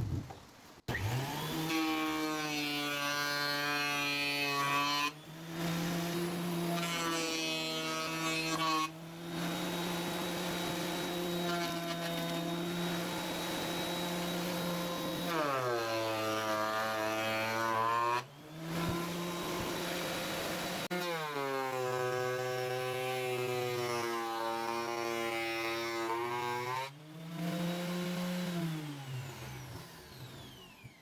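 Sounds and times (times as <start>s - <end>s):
thickness planer motor whine: 0.9s - 31.0s.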